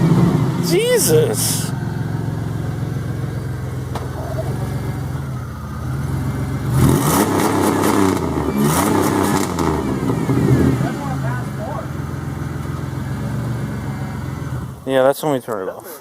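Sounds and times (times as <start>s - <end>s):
car engine idling and revving: 0.0s - 15.6s.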